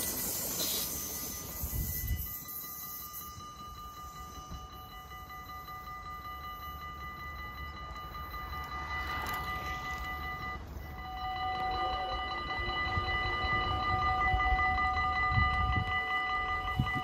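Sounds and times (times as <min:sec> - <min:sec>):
level crossing bell ringing: 0:01.0 - 0:17.0.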